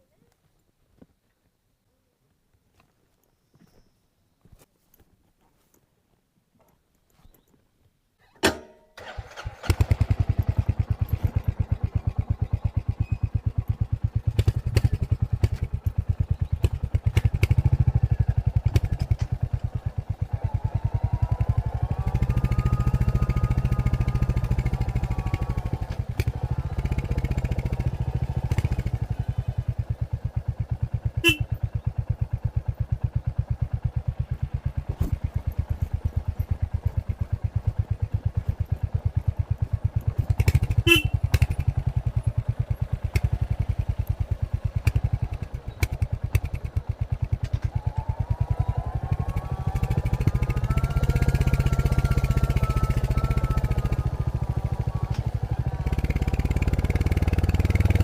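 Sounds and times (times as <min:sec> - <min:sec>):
motorcycle engine starting and running: 0:08.4 - 0:58.0.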